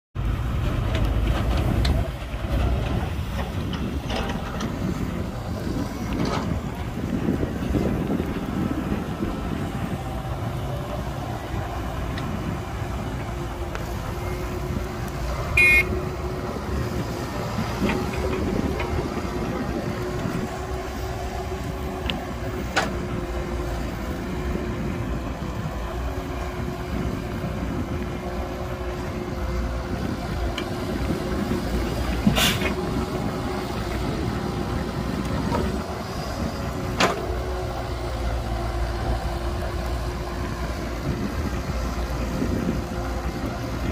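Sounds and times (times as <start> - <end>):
diesel engine drone: 0.2 - 43.9.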